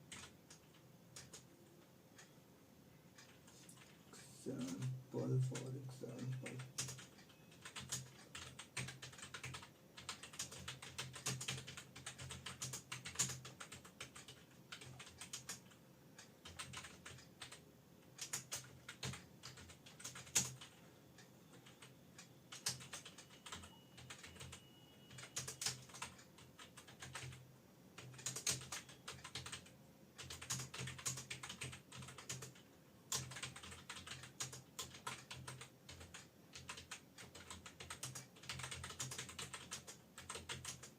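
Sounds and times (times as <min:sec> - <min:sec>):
fast keyboard typing: 0:00.0 - 0:01.5, 0:03.2 - 0:20.8, 0:21.5 - 0:27.4, 0:28.0 - 0:40.9.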